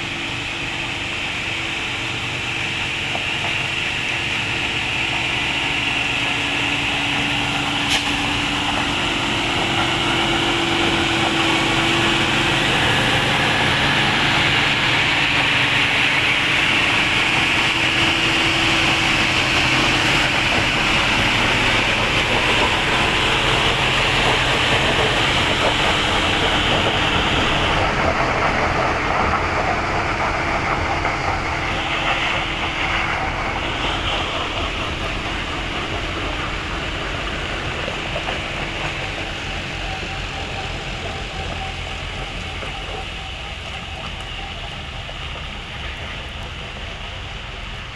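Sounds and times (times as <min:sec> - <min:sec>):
broad rushing noise: 0:00.0 - 0:47.9
heavy truck engine running: 0:00.0 - 0:47.9.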